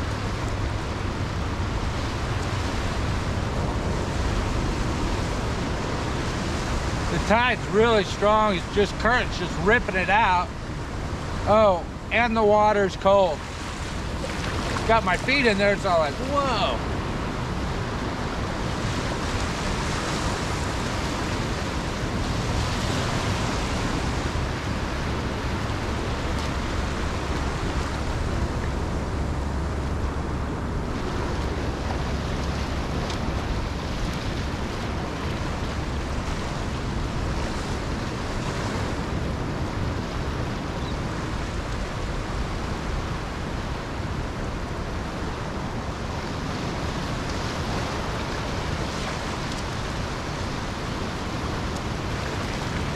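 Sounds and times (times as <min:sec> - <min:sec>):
small waves breaking on beach: 0:00.0 - 0:52.9.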